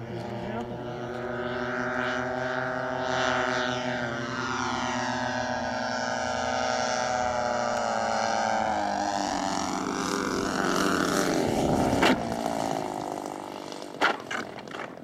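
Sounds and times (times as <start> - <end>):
twin propeller engines: 0.0 - 15.0.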